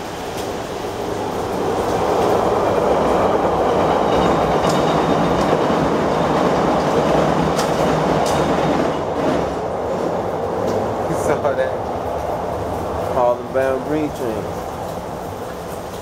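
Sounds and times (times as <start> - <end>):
train rumble and wheel clatter: 0.0 - 16.0.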